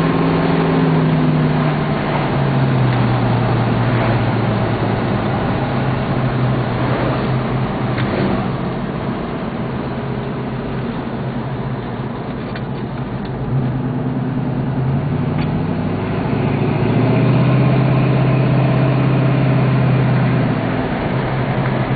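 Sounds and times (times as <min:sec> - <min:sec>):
car engine while driving: 0:00.0 - 0:21.9.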